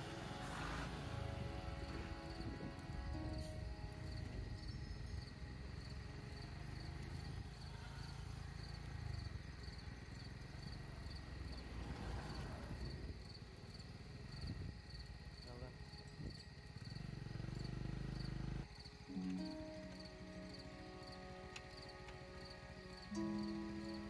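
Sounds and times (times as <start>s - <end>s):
continuous high whine: 0.0s - 24.0s
insects chirping: 0.0s - 24.0s.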